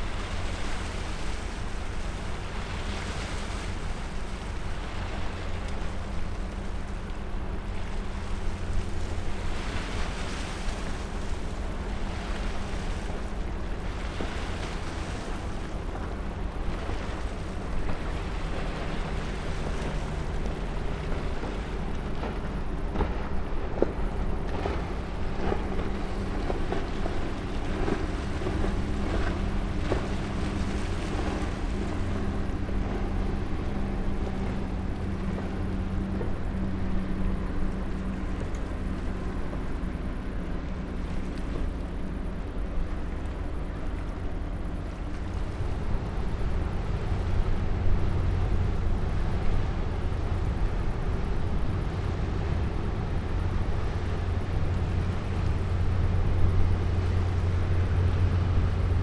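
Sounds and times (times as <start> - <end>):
tanker truck engine drone: 4.3 - 59.0.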